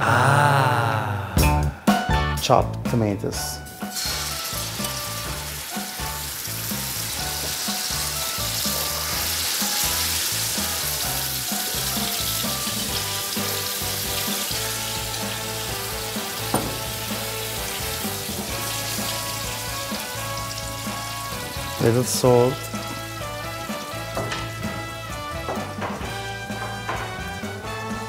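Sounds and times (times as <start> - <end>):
background music: 0.0 - 28.0
tomatoes sizzling in oil: 3.6 - 28.0.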